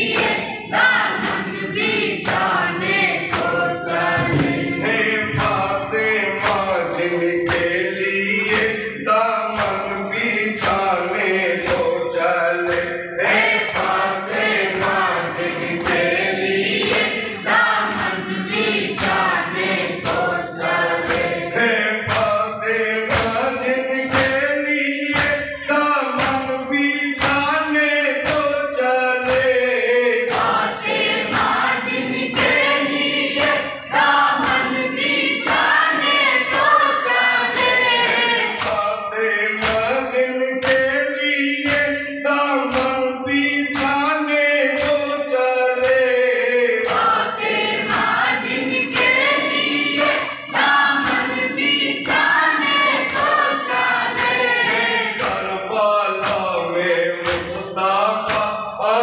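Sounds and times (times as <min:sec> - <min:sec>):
men chanting in chorus: 0:00.0 - 0:59.0
rhythmic chest-beating: 0:00.0 - 0:59.0.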